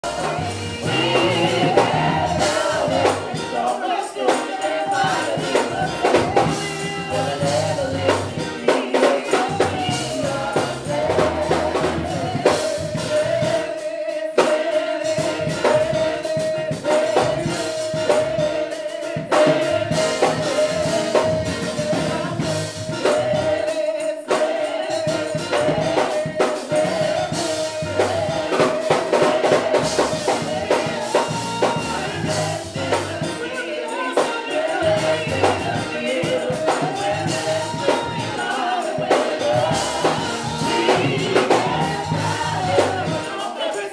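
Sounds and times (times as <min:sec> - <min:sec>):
drum kit: 0:00.0 - 0:43.9
gospel singing: 0:00.0 - 0:43.9
tambourine struck in quick rhythm: 0:00.0 - 0:43.9.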